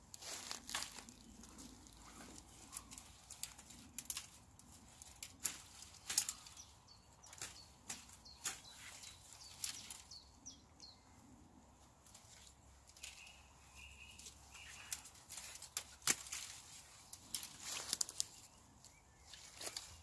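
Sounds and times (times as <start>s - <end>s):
dry twigs snapping and rustling: 0.0s - 10.2s, 12.0s - 20.0s.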